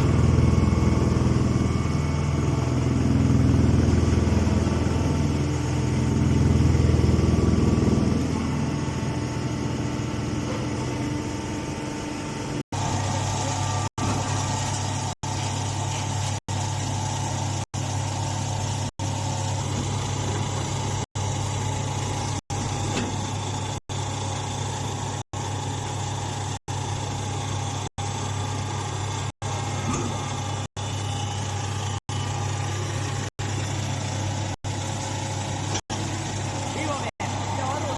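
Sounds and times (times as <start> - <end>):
baler machinery humming: 0.0 - 37.9.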